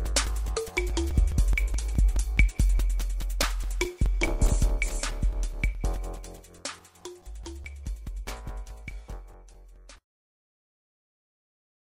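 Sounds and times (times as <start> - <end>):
beat with deep bass and drums: 0.0 - 10.0.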